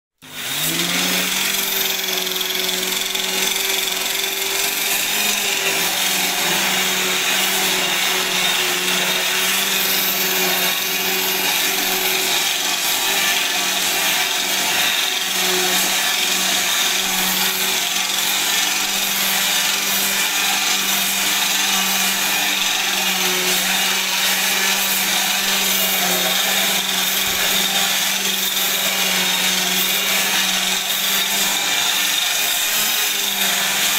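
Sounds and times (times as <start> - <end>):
rotary brush machine motor: 0.2 - 33.9.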